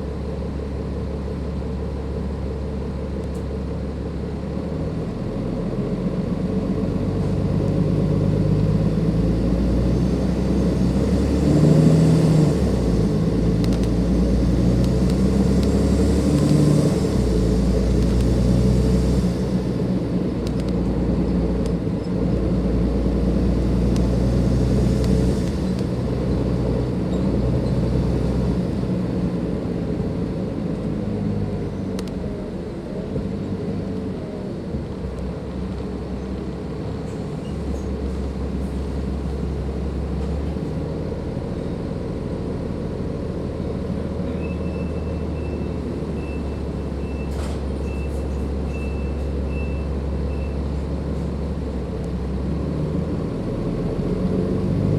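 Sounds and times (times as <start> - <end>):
bus diesel engine changing gear: 0.0 - 54.9.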